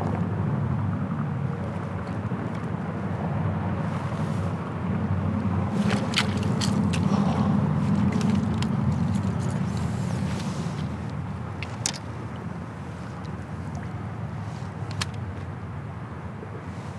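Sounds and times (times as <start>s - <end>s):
wind rumble on microphone: 0.0s - 16.9s.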